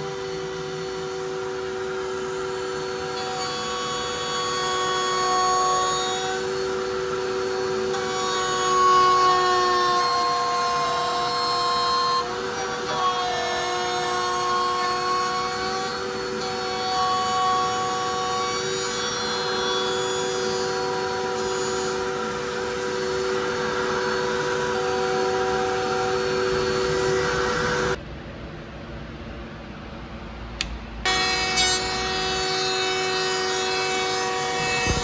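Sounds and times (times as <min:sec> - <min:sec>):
router motor whine: 0:00.0 - 0:28.0, 0:31.0 - 0:35.0.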